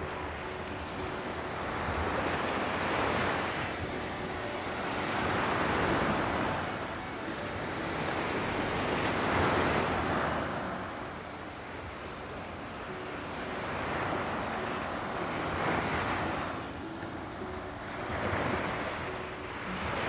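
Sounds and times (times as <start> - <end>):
small waves washing on sand: 0.0 - 20.0.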